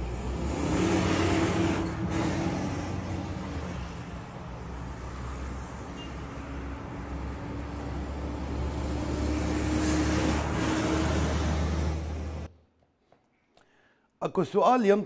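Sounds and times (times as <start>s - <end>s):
truck engine hum: 0.0s - 12.5s.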